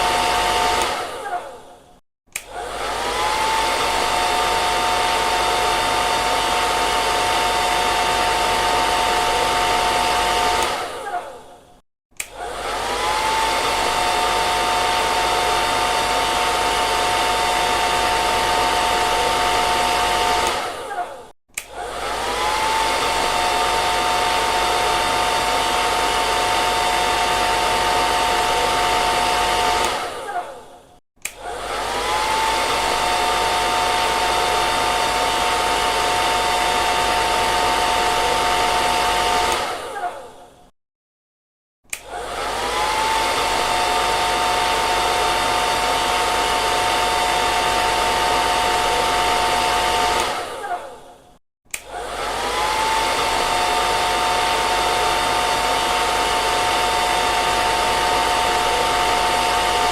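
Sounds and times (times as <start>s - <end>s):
hair dryer blowing: 0.0s - 40.6s, 41.9s - 59.9s.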